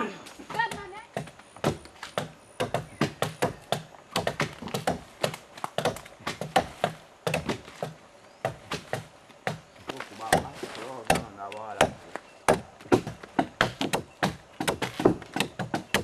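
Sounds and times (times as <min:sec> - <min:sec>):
hand tools chipping wood: 0:00.4 - 0:16.0.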